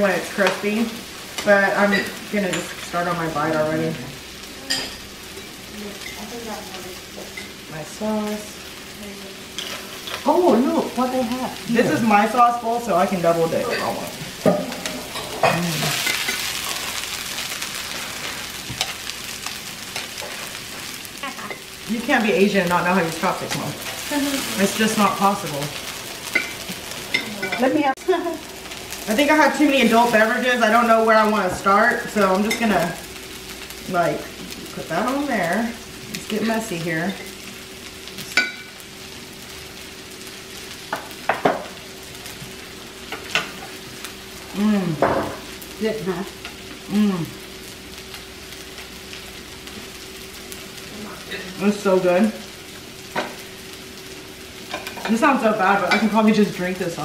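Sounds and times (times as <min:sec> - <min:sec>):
food sizzling on a griddle: 0:00.0 - 0:57.0.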